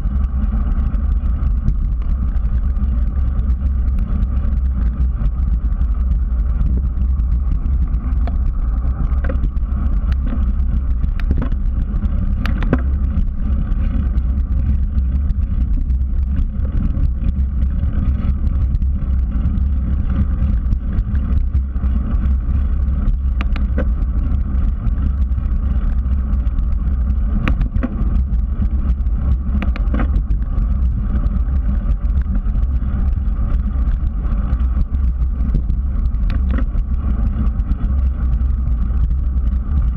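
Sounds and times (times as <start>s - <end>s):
sharp ticks and rattles: 0.0s - 39.9s
wind rumble on microphone: 0.0s - 39.9s
tyres rolling on asphalt: 0.1s - 39.9s.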